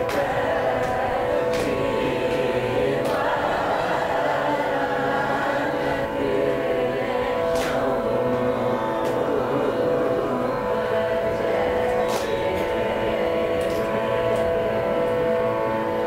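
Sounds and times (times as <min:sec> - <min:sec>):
hand claps: 0:00.0 - 0:05.7, 0:06.9 - 0:10.3, 0:10.9 - 0:15.3
men singing in unison: 0:00.0 - 0:15.1.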